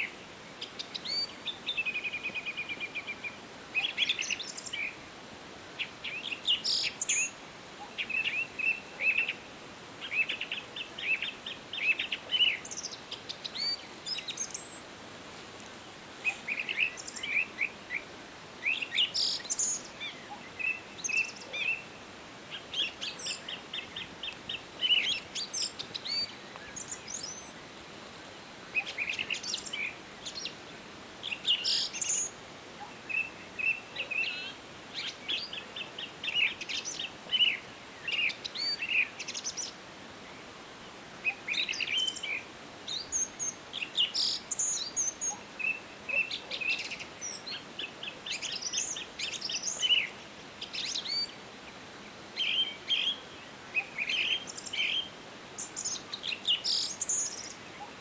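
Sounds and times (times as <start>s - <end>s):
faint steady hiss: 0.0s - 58.0s
songbirds singing and chirping: 0.0s - 58.0s.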